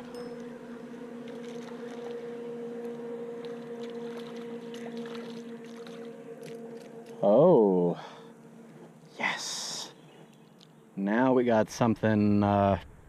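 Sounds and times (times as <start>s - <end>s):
distant motorboat engine drone: 0.0s - 13.0s.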